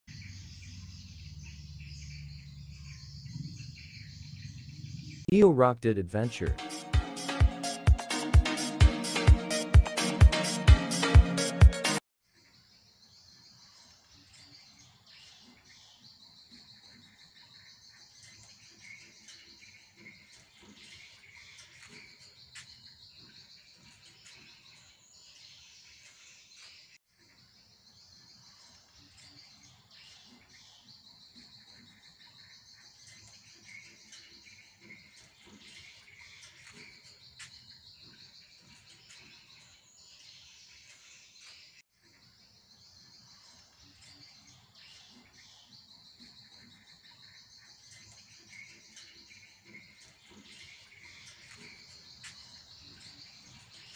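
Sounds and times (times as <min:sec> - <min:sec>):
bird chirps: 0:00.1 - 0:07.9, 0:12.3 - 0:53.9.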